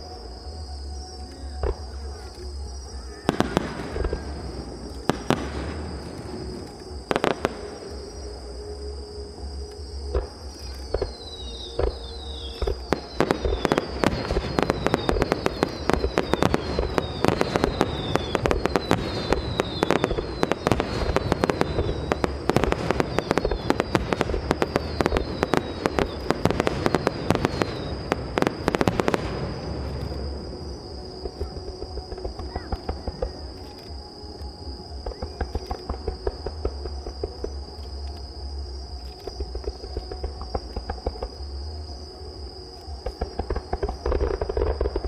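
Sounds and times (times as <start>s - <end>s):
falling whistles of fireworks: 0.0s - 45.0s
fireworks bangs and crackling: 3.2s - 8.4s, 10.0s - 38.0s, 39.2s - 41.6s, 42.9s - 45.0s.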